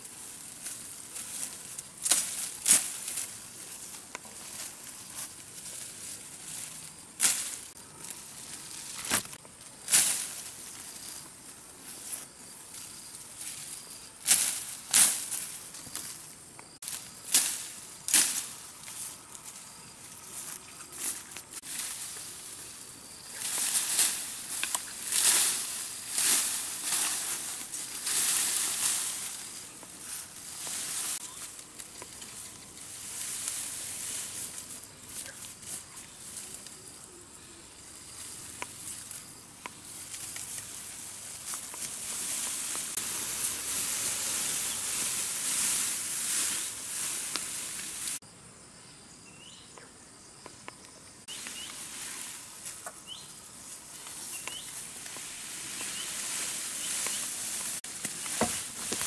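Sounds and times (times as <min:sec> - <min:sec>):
rustling: 0:00.0 - 0:36.8, 0:38.1 - 0:48.2, 0:51.2 - 0:59.0
faint steady hiss: 0:00.0 - 0:59.0.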